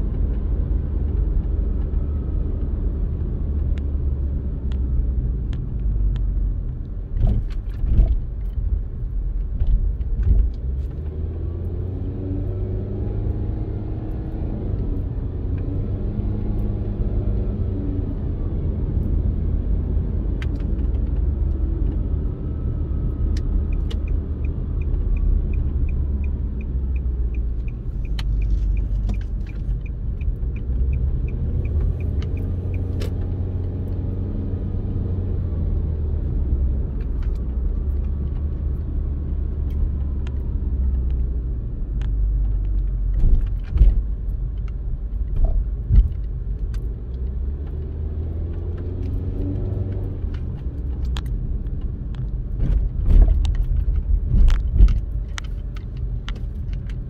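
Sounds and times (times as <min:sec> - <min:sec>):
car road and engine rumble: 0:00.0 - 0:57.0
turn signal ticking: 0:00.0 - 0:57.0.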